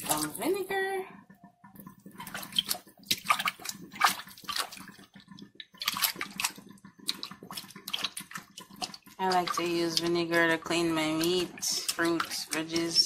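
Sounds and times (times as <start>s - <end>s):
water splashing and sloshing: 0.0s - 13.0s
hand rubbing meat in water: 1.8s - 13.0s.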